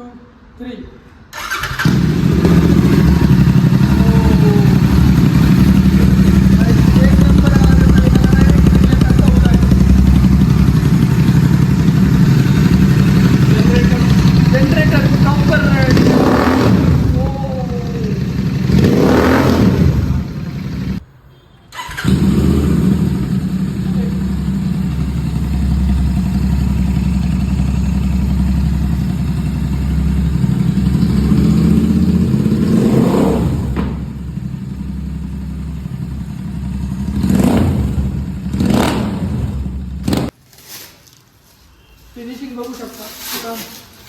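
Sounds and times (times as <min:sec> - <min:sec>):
motorcycle engine idling and revving: 0:01.4 - 0:21.0, 0:21.8 - 0:40.4.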